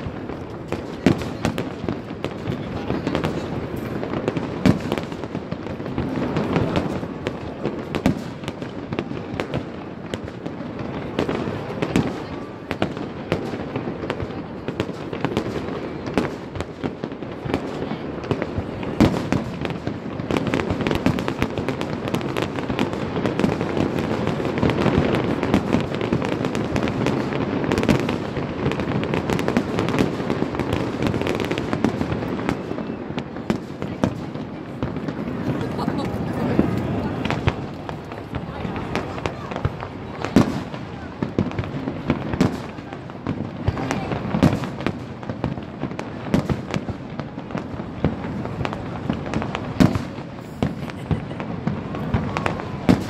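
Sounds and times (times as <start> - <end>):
fireworks bangs and crackling: 0.0 - 53.0
sharp firework reports: 0.0 - 53.0.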